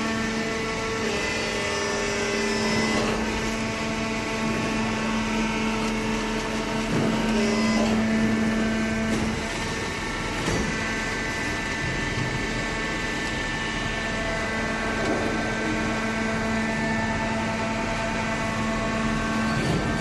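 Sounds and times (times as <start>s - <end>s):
hydraulic baler humming: 0.0s - 20.0s.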